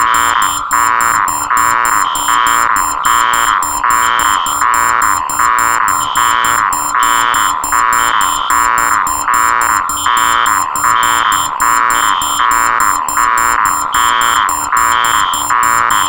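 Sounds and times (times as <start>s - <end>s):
electronic alarms beeping: 0.0s - 16.0s
rapid high-pitched beep: 0.0s - 16.0s.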